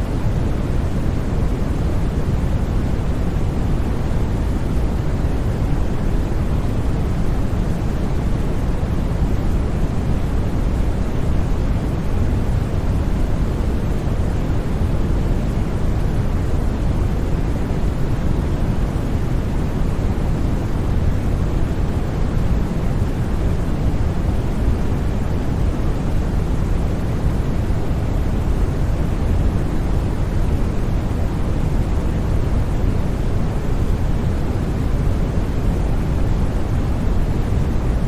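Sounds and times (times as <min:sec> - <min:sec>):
white noise: 0:00.0 - 0:38.0.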